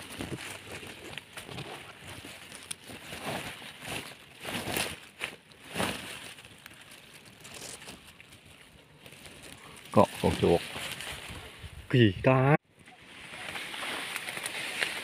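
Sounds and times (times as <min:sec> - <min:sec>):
twigs and leaves rustling: 0:00.0 - 0:12.0, 0:12.7 - 0:15.0.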